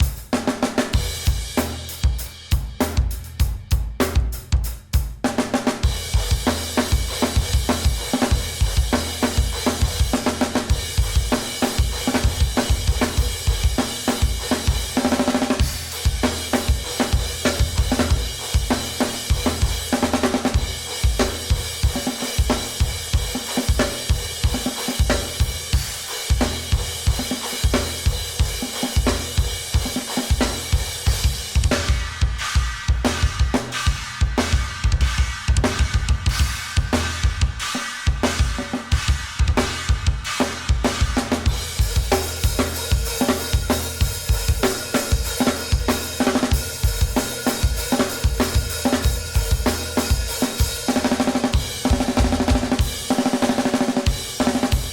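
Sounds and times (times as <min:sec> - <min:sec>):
drum kit groove: 0:00.0 - 0:54.9.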